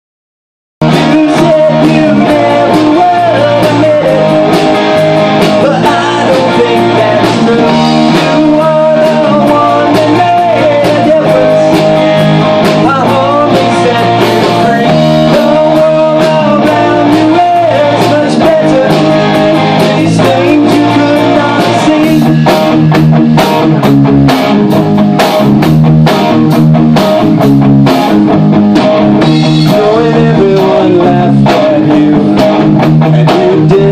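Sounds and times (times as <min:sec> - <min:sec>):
drums: 0:00.8 - 0:33.9
electric guitar: 0:00.8 - 0:33.9
rock band playing: 0:00.8 - 0:33.9.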